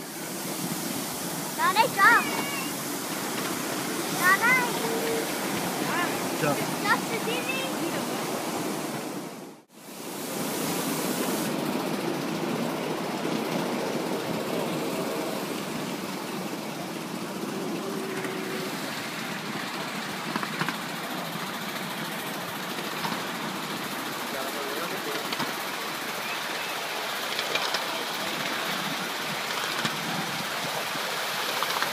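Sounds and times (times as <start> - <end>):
miniature train running on track: 0.0 - 9.2, 9.8 - 31.9.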